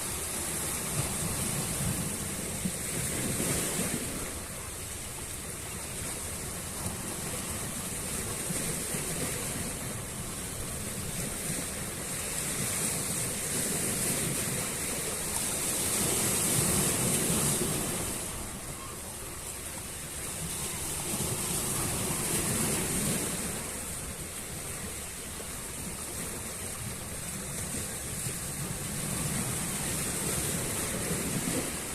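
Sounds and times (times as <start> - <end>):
sea waves washing onto shore: 0.0 - 31.9.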